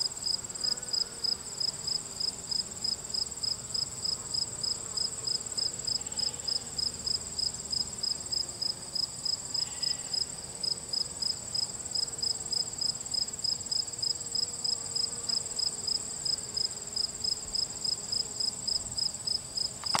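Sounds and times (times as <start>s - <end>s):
high-pitched insect trill: 0.2s - 8.4s, 9.0s - 20.0s.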